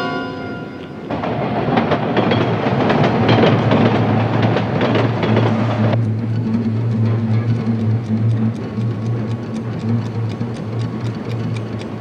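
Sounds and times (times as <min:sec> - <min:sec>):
subway train rumbling past: 0:00.0 - 0:12.0
wheels clacking over rail joints: 0:00.8 - 0:12.0.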